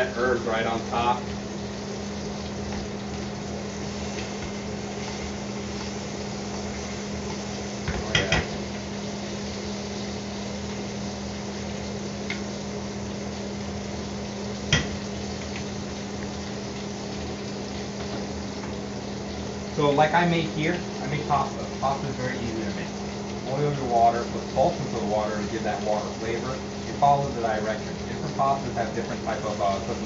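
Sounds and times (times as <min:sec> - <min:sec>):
meat frying in a skillet: 0:00.0 - 0:30.0
range hood fan hum: 0:00.0 - 0:30.0.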